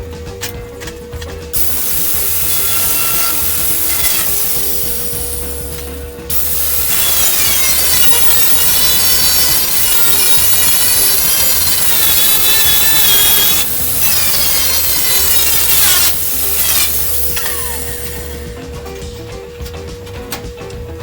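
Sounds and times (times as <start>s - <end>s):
grinder grinding sheet steel: 1.6s - 18.6s.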